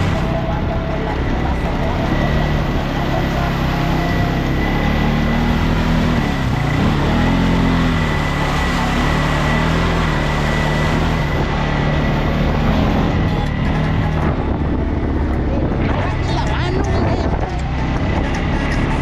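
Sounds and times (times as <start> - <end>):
engine revving: 0.0 - 19.0
tyre and road noise: 0.0 - 19.0.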